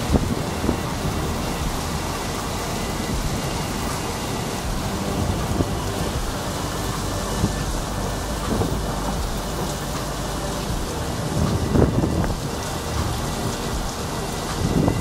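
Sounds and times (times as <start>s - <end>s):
low rumbling: 0.0s - 15.0s
torrential rain: 0.0s - 15.0s.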